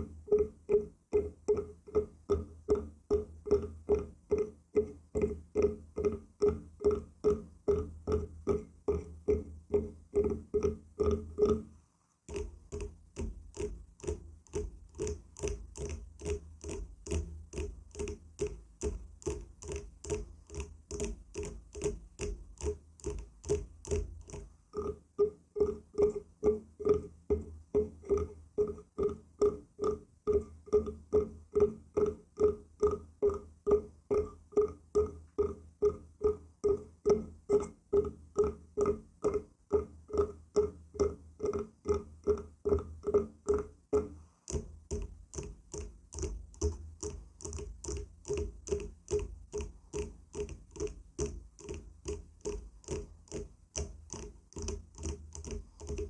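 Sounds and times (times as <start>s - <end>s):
rhythmic tapping on wood: 0.0s - 11.7s, 12.3s - 56.0s.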